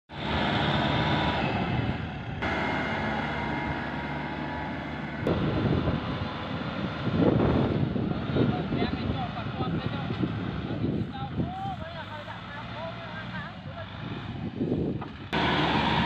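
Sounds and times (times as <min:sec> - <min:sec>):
tractor diesel engine under load: 0:00.1 - 0:16.0.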